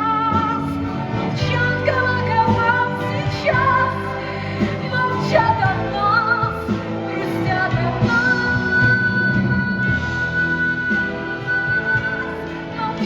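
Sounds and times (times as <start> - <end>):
slow song with instrumental accompaniment: 0.0 - 13.0.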